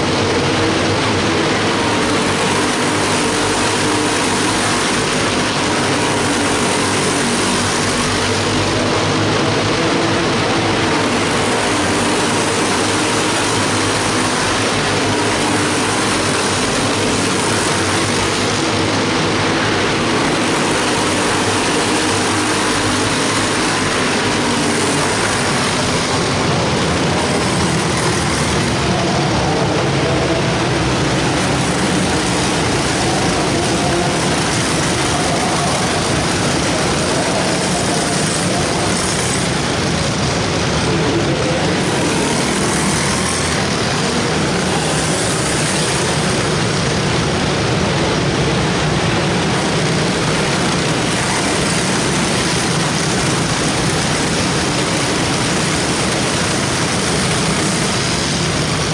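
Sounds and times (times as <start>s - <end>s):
small race car engines droning: 0.0s - 58.9s.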